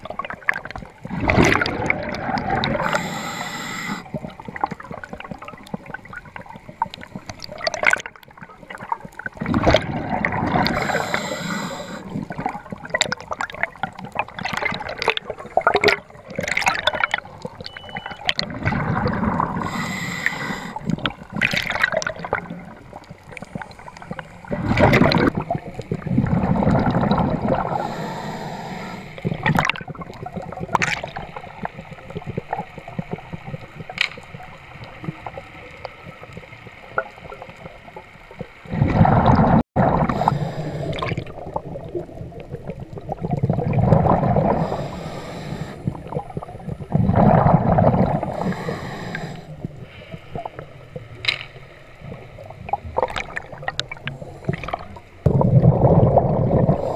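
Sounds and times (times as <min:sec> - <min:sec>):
underwater gurgling water: 0:00.0 - 0:56.9.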